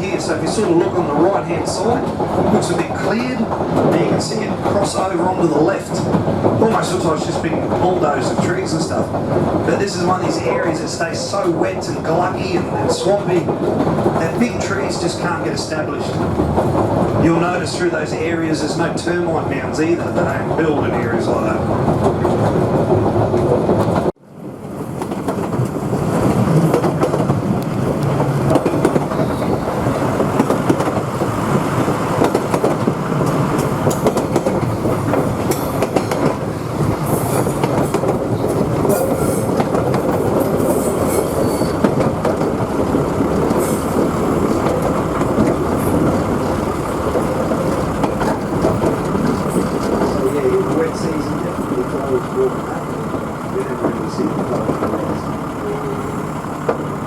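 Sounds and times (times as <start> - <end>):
diesel rail motor running: 0.0 - 57.0
wheels rumbling on rail: 0.0 - 57.0.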